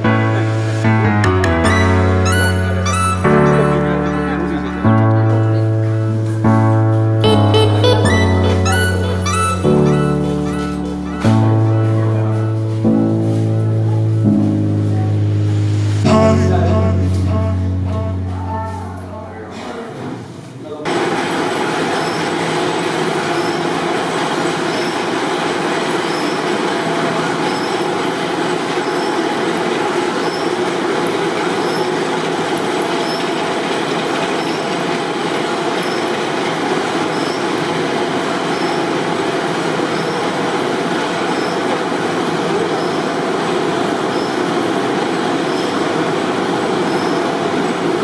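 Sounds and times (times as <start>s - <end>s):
factory machinery din: 0.0s - 48.0s.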